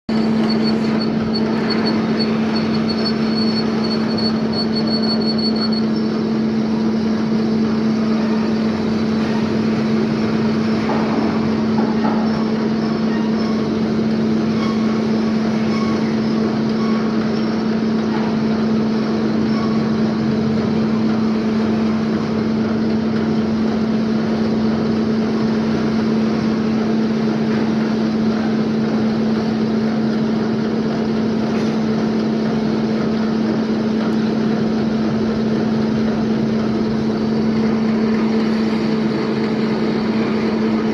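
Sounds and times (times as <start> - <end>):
lathe humming: 0.1 - 31.4, 32.0 - 40.9.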